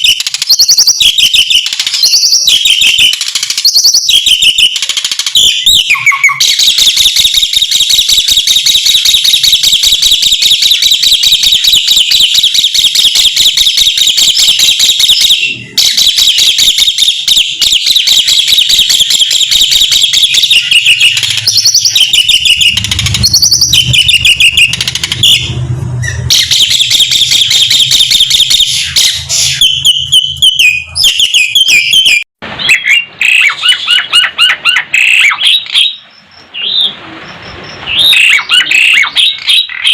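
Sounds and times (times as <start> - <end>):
starling chattering song: 0.0 - 39.9.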